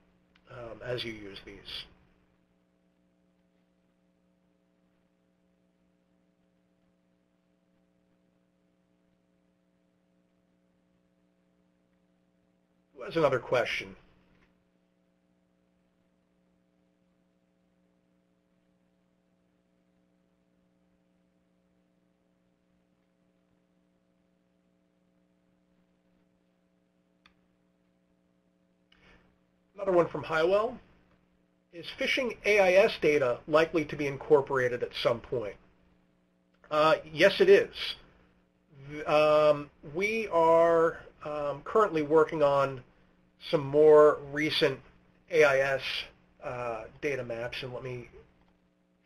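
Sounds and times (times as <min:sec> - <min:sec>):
faint steady hum: 0:00.0 - 0:49.0
low hiss: 0:00.0 - 0:49.0.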